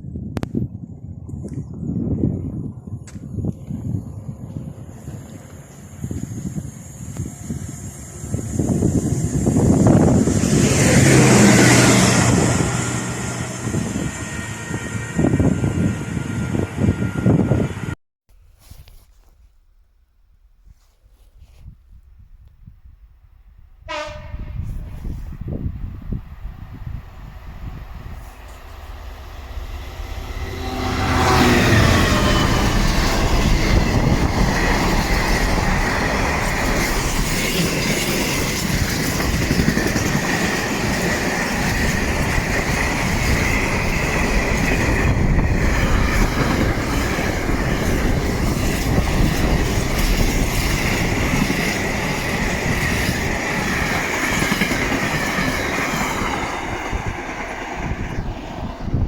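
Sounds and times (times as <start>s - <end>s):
train wheels rumbling on rails: 2.0s - 18.0s, 23.8s - 59.0s.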